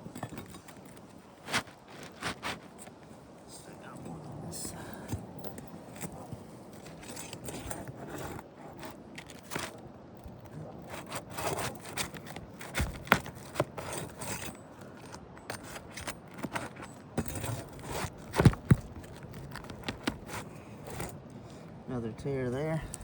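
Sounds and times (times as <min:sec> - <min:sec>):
shingles scraping and crackling: 0:00.0 - 0:03.2, 0:05.0 - 0:21.7.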